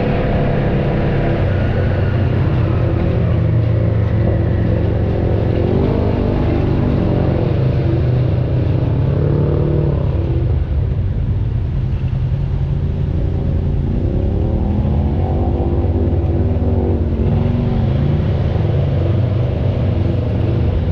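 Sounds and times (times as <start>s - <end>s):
off-road vehicle engine revving: 0.0s - 20.9s.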